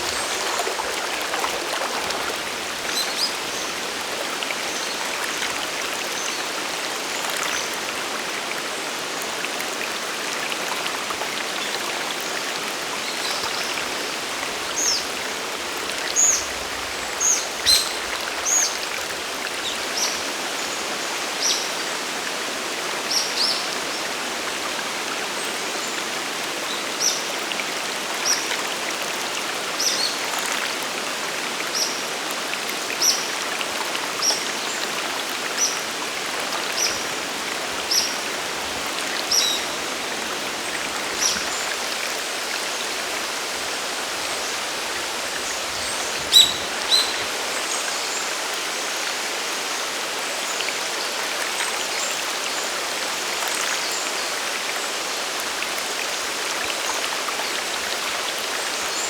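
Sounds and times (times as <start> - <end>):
rushing waterfall and stream: 0.0 - 59.0.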